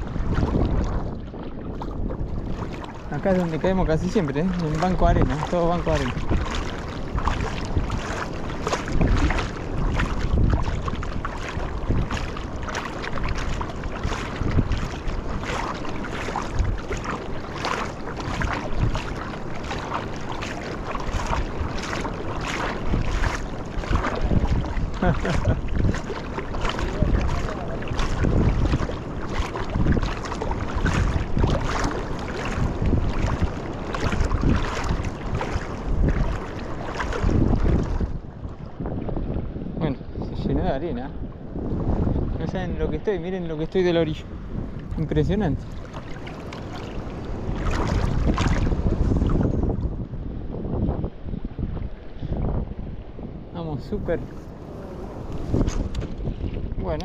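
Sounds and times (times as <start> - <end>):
footsteps splashing in water: 0.0 - 38.6, 44.4 - 49.9, 53.9 - 57.0
wind buffeting microphone: 0.0 - 57.0.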